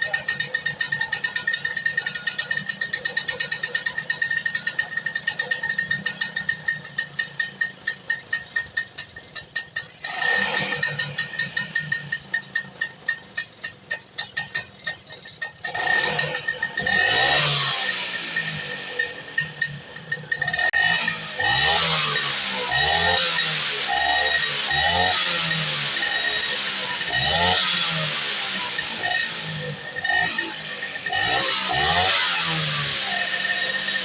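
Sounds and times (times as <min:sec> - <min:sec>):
scooter engine running: 0:00.0 - 0:34.0.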